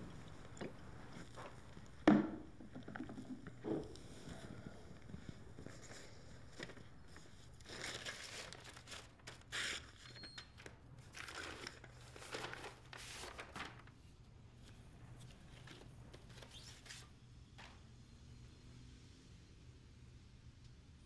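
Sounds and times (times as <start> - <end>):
paper rustling and crinkling: 0.0 - 17.8.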